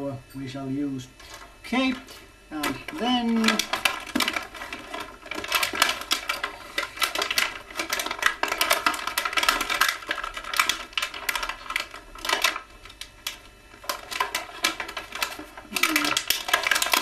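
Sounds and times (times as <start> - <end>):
plastic toy package rattling: 2.6 - 17.0.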